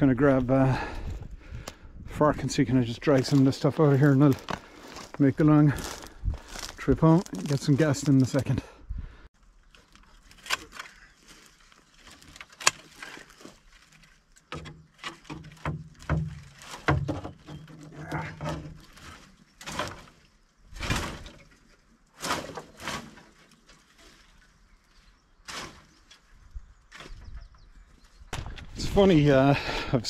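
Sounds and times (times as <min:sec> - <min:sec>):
undergrowth rustling and twigs snapping: 0:03.0 - 0:08.5, 0:09.4 - 0:28.9.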